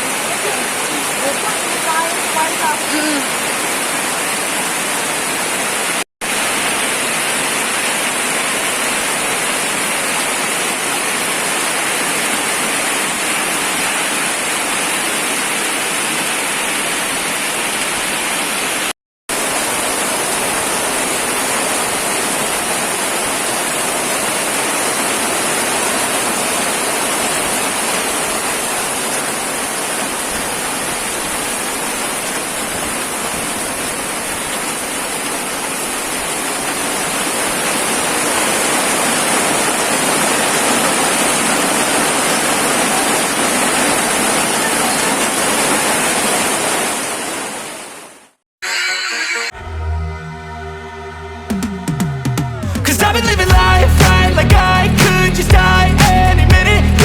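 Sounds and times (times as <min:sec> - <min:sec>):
heavy rain: 0:00.0 - 0:48.4, 0:51.4 - 0:57.0.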